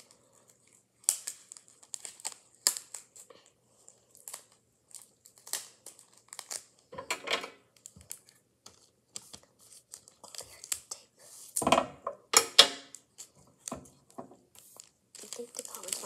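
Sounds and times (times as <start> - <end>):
tape crackling and crinkling: 0.0 - 7.0, 7.6 - 11.7, 12.9 - 16.0.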